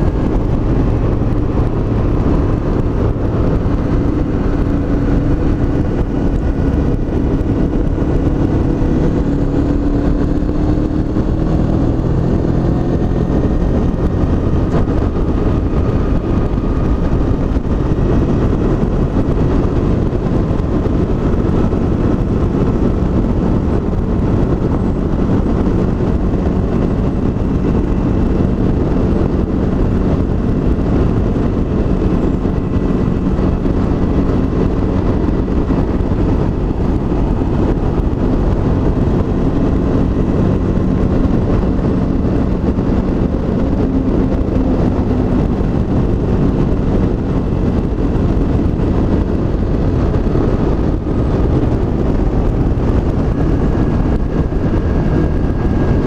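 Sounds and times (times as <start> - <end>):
motorcycle engine cruising: 0.0 - 56.0
wind rush: 0.0 - 56.0.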